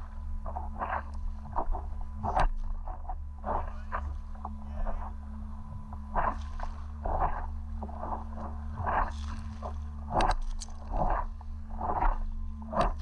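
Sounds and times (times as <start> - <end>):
steady low hum: 0.0 - 13.0
paddle splashing through water: 0.4 - 13.0.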